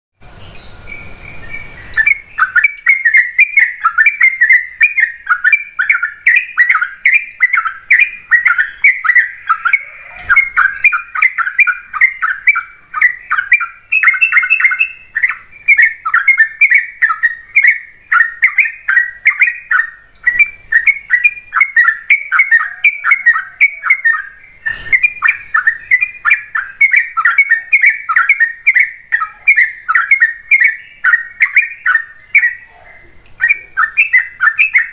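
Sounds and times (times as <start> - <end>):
bulbul singing: 0.2 - 34.9.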